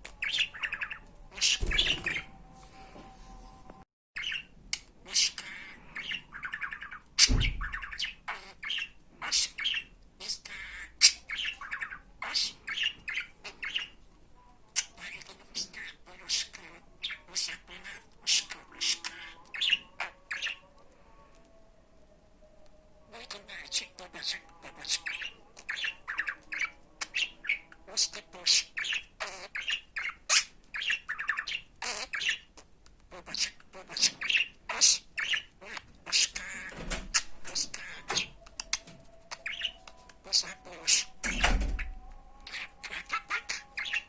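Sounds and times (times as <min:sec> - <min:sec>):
budgerigar chirping and squawking: 0:00.1 - 0:02.3, 0:04.2 - 0:14.0, 0:14.8 - 0:20.7, 0:23.1 - 0:44.0.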